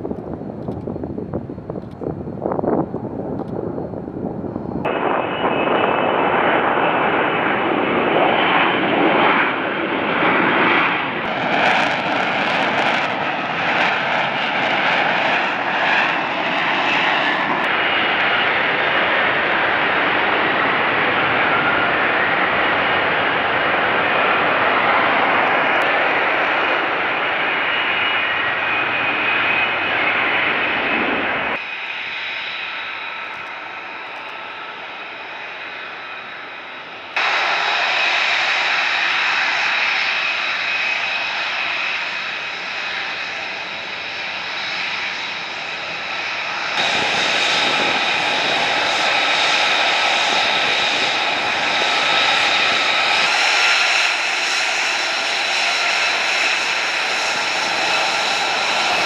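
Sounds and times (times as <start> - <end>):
jet engine rushing and whining: 0.0 - 59.0.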